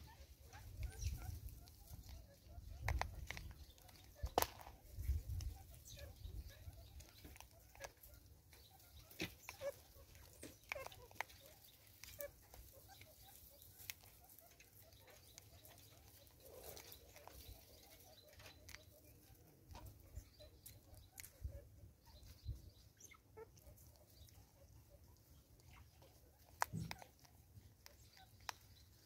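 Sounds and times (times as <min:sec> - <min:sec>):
faint small clicks and ticks: 0:00.1 - 0:21.5, 0:25.1 - 0:29.0.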